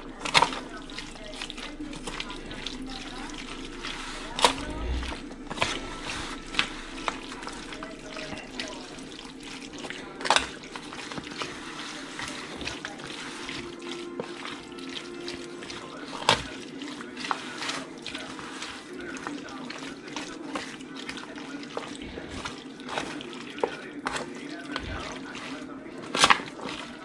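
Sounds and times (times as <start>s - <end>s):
spoon scraping foil pan: 0.0s - 27.0s
wet squelching of food: 0.0s - 27.0s.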